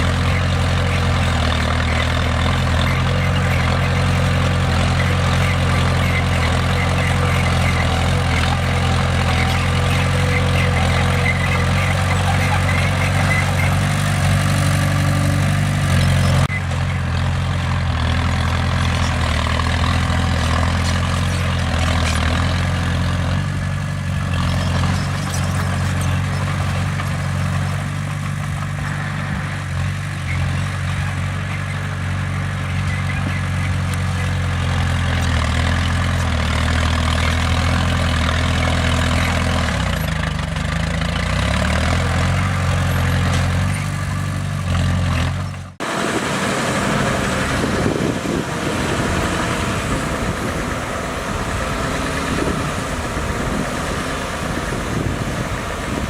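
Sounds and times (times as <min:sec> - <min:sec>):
bulldozer engine droning: 0:00.0 - 0:56.0.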